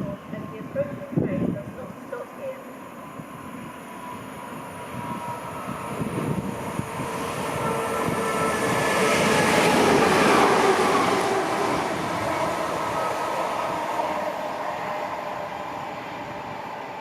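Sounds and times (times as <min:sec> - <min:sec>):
train rumble and wheel noise: 0:00.0 - 0:17.0.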